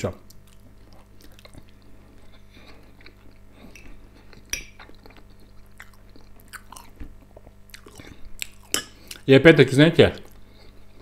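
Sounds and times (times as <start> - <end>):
man chewing: 0.2 - 9.3, 10.2 - 11.0.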